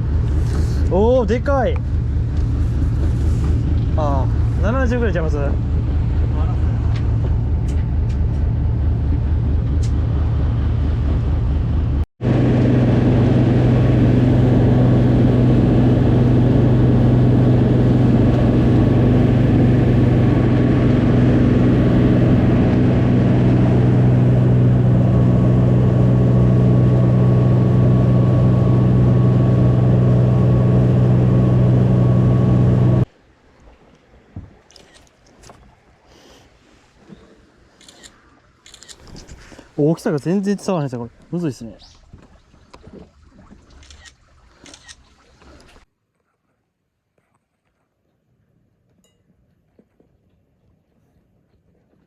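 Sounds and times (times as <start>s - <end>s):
boat engine humming: 0.0s - 45.8s.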